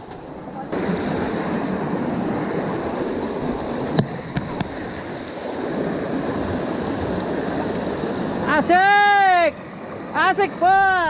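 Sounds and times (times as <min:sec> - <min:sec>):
stream rushing over rocks: 0:00.3 - 0:11.0.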